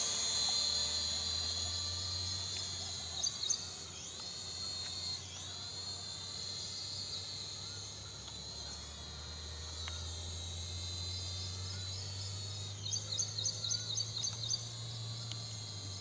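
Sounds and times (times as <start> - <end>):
drone propeller whine: 0.0 - 16.0.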